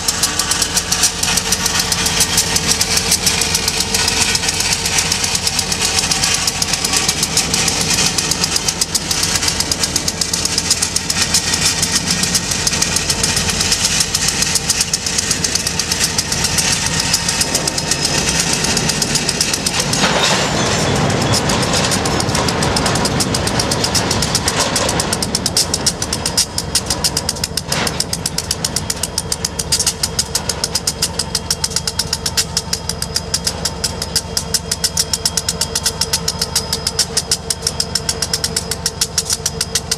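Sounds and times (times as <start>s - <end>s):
diesel locomotive engines running: 0.0s - 39.9s
sharp metal clank: 0.0s - 39.9s
train rushing rumble: 0.0s - 39.9s.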